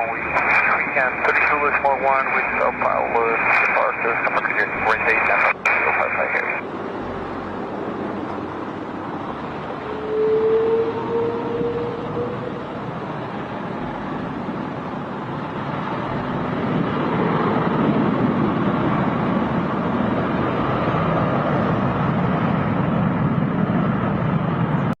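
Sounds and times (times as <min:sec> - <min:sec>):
jet engines rumbling at takeoff: 0:00.0 - 0:25.0.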